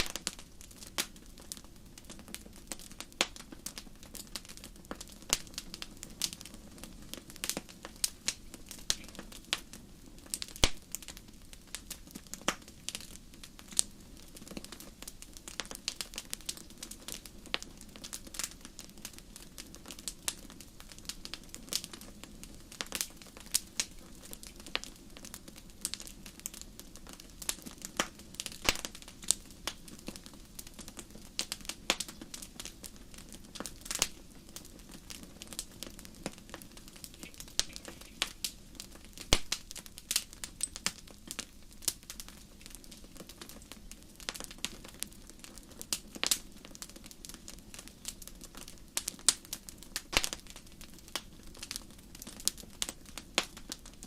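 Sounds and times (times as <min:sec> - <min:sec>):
low hiss of burning: 0:00.0 - 0:54.0
wood fire popping and snapping: 0:00.0 - 0:54.0.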